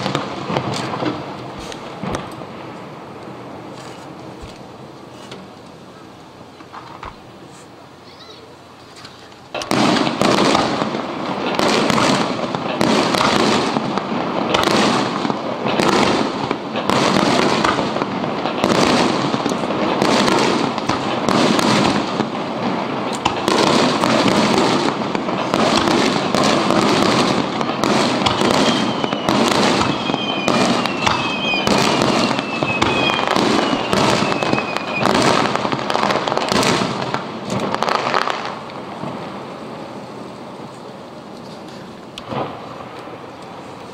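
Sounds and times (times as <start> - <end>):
fireworks booming: 0.0 - 43.9
fireworks crackling: 0.0 - 43.9
fireworks falling whistles: 0.0 - 43.9.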